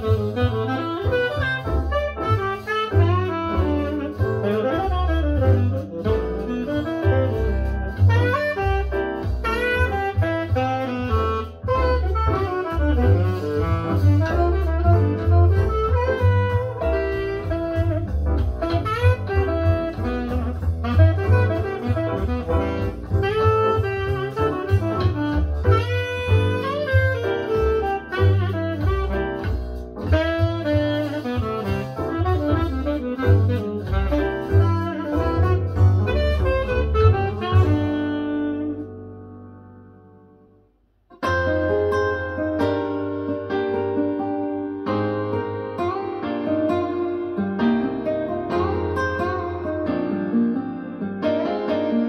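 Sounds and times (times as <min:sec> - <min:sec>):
jazz with lead saxophone: 0:00.0 - 0:52.0.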